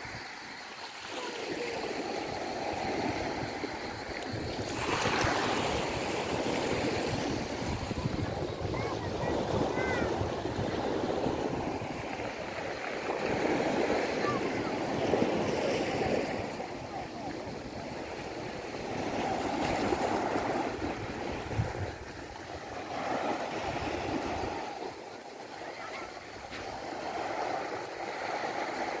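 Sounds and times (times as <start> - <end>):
small waves on pebble shore: 0.0 - 29.0.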